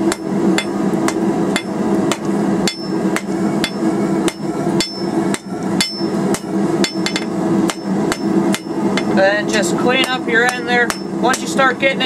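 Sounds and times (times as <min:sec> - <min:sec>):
hammer striking hot steel on anvil: 0:00.0 - 0:11.6
steady low hum: 0:00.0 - 0:12.0.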